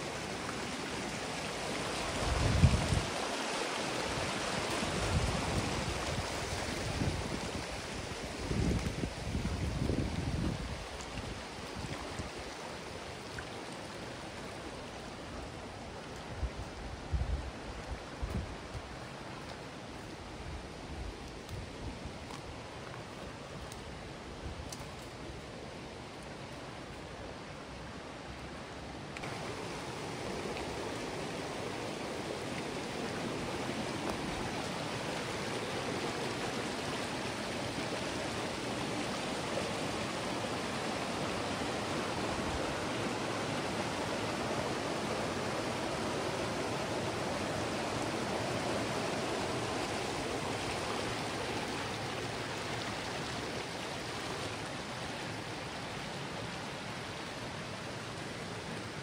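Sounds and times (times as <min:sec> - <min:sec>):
creek water flowing: 0:00.0 - 0:59.0.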